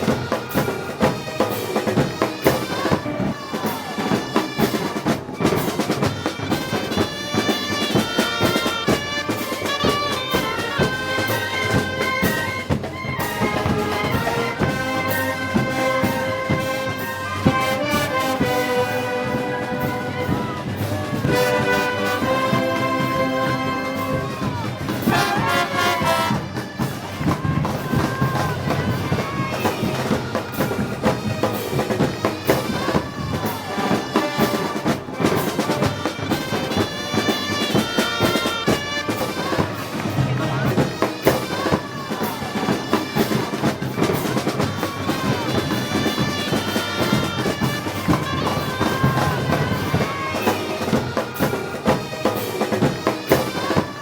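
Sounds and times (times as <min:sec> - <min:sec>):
drums and cymbals: 0:00.0 - 0:54.0
trumpets and trombones: 0:00.0 - 0:54.0.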